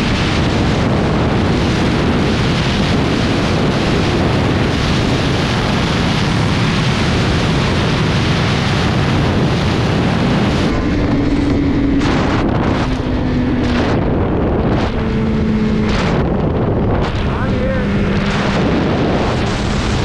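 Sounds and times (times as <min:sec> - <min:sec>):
motorcycle engine cruising: 0:00.0 - 0:20.0
wind on microphone: 0:00.0 - 0:20.0.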